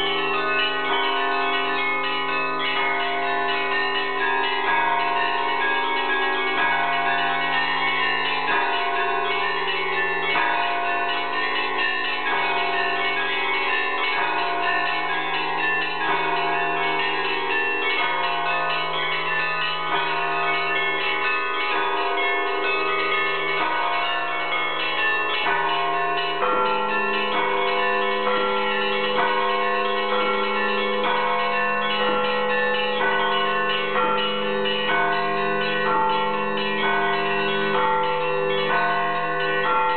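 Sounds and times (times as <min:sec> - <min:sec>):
church bells ringing: 0:00.0 - 0:39.9
low bell tone: 0:00.0 - 0:39.9.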